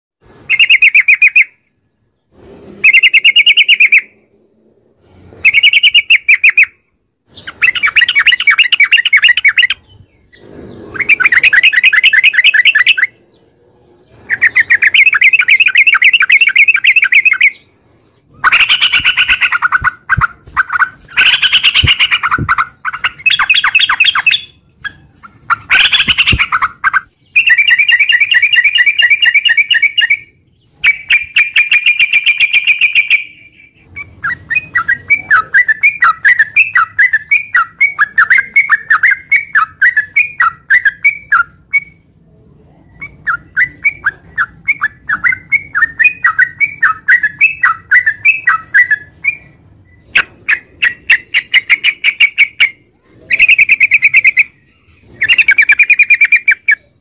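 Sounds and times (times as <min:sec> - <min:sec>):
bird chattering song: 0:00.4 - 0:04.3, 0:05.0 - 0:42.2, 0:42.8 - 0:57.0.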